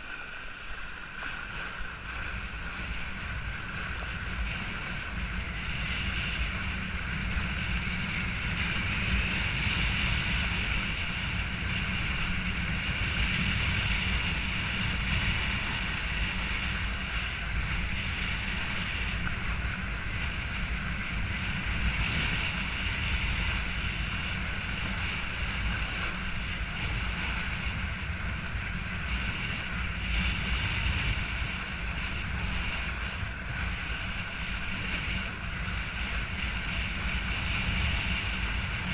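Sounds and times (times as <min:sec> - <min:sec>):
water rushing under board: 0:00.0 - 0:38.9
wind rumbling on microphone: 0:00.0 - 0:38.9.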